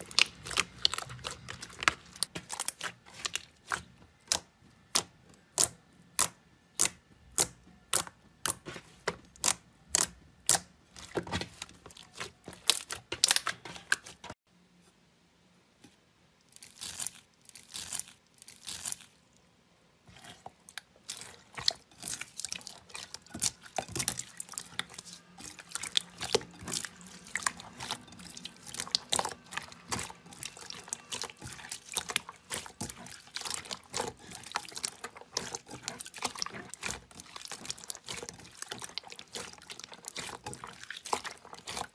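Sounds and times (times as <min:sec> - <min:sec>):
wet slime squelching: 0:00.0 - 0:14.4, 0:16.6 - 0:41.9.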